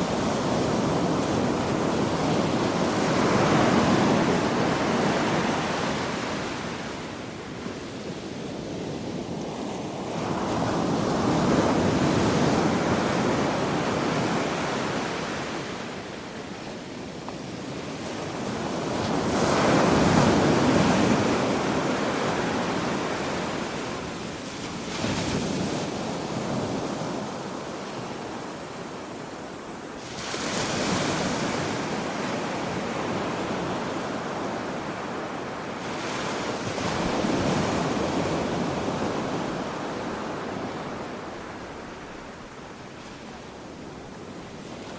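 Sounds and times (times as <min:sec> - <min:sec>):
ocean waves breaking on beach: 0:00.0 - 0:44.9.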